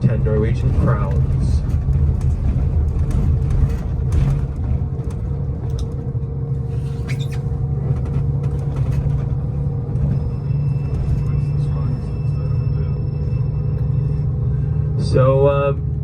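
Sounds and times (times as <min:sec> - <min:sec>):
constant hum: 0:00.0 - 0:16.0
motor vehicle running: 0:00.0 - 0:16.0.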